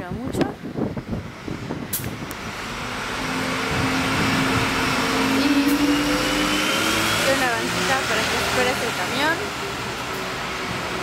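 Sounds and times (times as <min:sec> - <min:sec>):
bus engine: 0:00.2 - 0:11.0.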